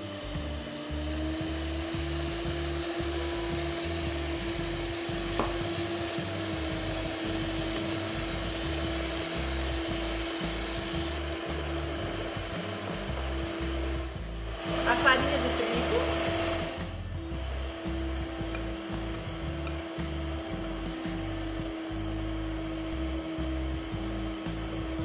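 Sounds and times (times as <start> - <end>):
electric hand mixer whirring: 0.0 - 25.0.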